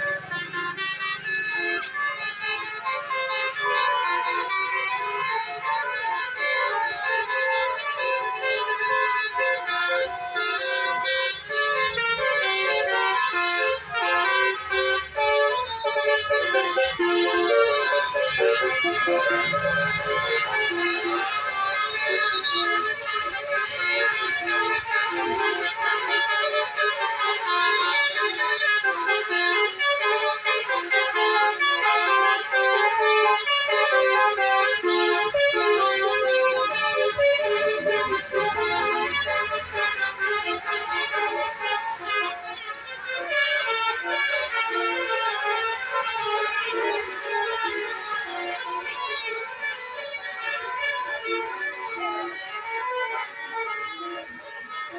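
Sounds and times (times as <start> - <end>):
musical air horn playing a tune: 0.0 - 54.9.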